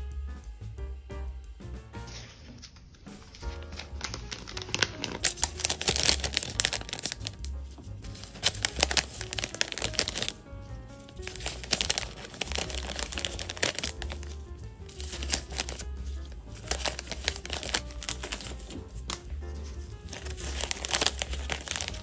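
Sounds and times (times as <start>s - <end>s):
background music with bass line: 0.0s - 2.5s, 3.1s - 22.0s
plastic bags crinkling: 2.4s - 7.5s, 8.1s - 10.4s, 11.0s - 22.0s.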